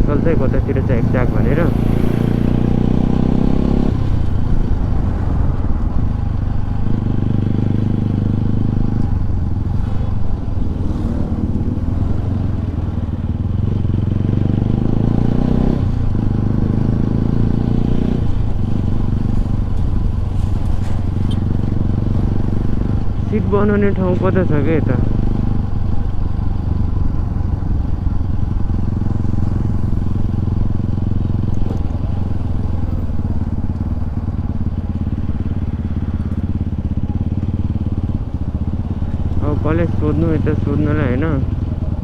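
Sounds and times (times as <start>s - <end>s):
motorcycle engine: 0.0s - 42.0s.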